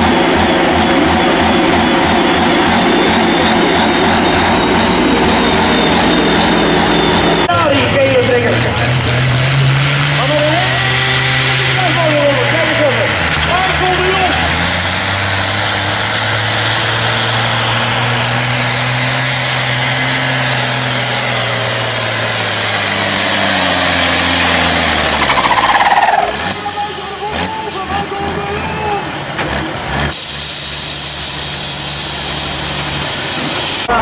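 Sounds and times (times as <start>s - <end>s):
tractor engine under load: 0.0s - 34.0s.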